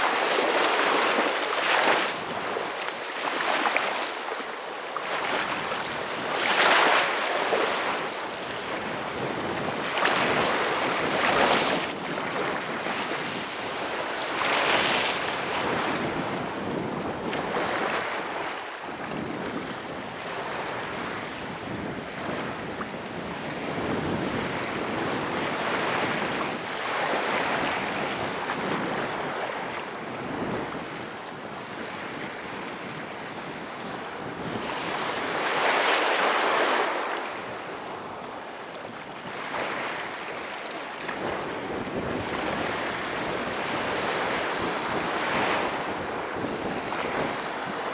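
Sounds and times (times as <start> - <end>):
small waves washing onto sand: 0.0 - 47.9.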